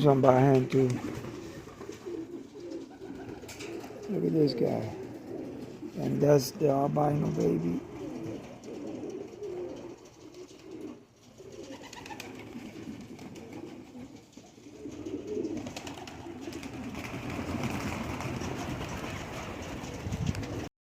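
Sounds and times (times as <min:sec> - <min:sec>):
pigeons cooing: 0:00.0 - 0:20.7.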